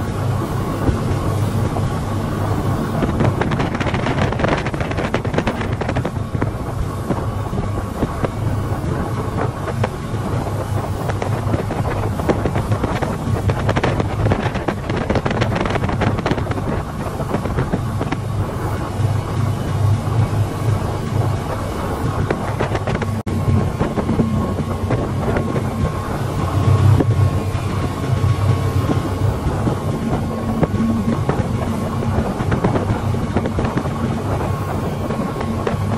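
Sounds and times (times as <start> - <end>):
hull slapping waves: 0.0 - 35.9
rushing wake and spray: 0.0 - 35.9
speedboat engine drone: 0.0 - 35.9
wind buffeting microphone: 0.0 - 35.9.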